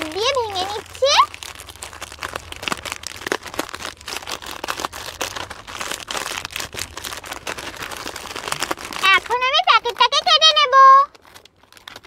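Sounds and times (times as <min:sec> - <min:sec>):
chips crackling: 0:00.0 - 0:12.0
plastic bag crinkling: 0:00.0 - 0:12.0.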